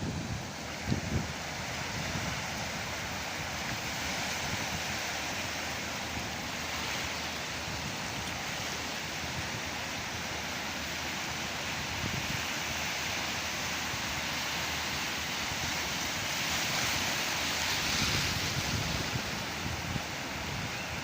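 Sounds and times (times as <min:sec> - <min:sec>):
waves breaking: 0:00.0 - 0:21.0.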